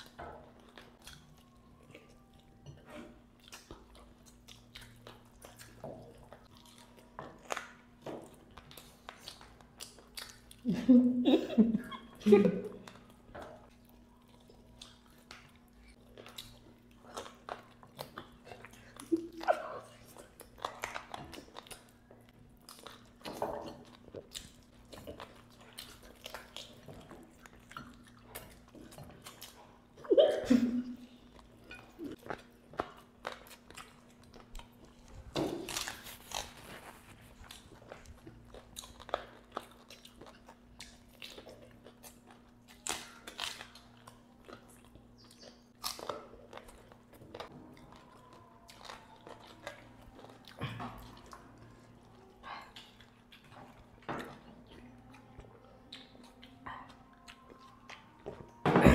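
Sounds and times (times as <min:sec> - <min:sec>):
chewing and lip smacks: 0:00.0 - 0:10.7, 0:11.9 - 0:30.1, 0:30.9 - 0:58.6.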